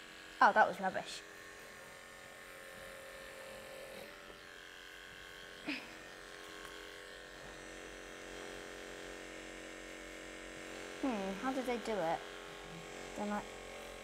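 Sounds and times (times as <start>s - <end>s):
electric clippers buzzing: 0.0s - 14.0s.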